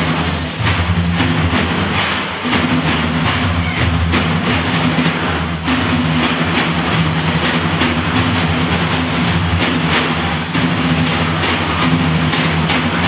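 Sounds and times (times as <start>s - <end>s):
frame drums played by hand: 0.0s - 13.0s.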